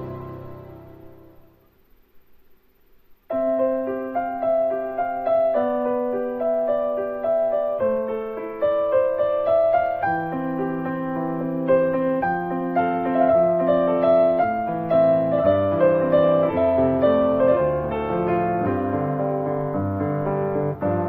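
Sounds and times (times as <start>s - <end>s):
piano music: 0.0s - 1.7s, 3.3s - 21.0s.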